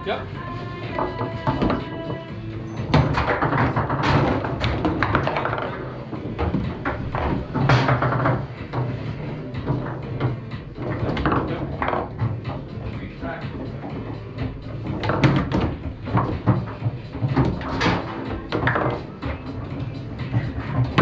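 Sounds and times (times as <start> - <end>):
foosball ball and rods knocking: 0.8 - 21.0.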